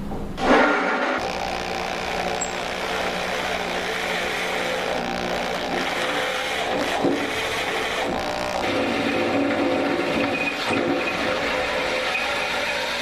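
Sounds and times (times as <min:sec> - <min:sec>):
power drill reaming metal: 0:01.2 - 0:13.0.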